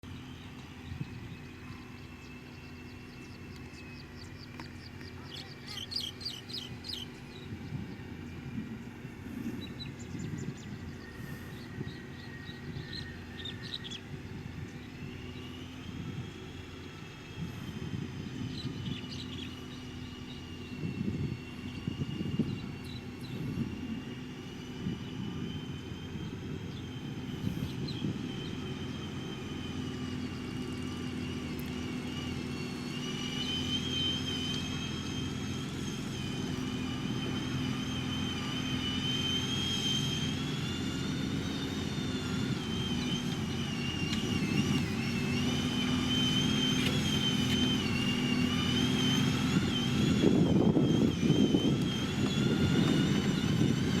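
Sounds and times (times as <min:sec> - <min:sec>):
heavy diesel machinery drone: 0:00.0 - 0:54.0
high wavering whine: 0:00.0 - 0:54.0.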